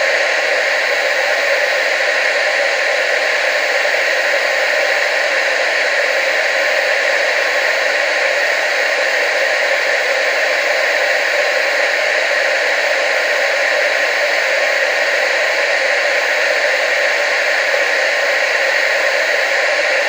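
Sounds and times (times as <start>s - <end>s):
television static hiss: 0.0s - 20.0s.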